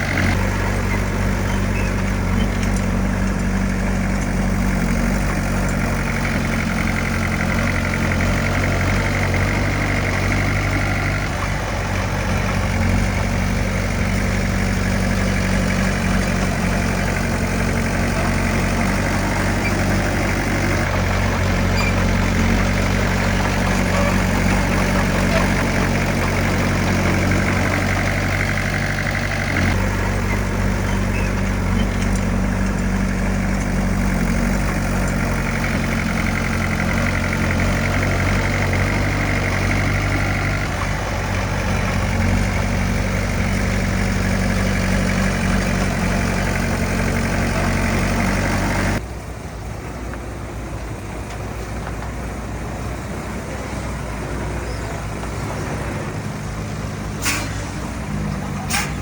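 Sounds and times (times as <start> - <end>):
diesel engine of heavy equipment: 0.0 - 59.0.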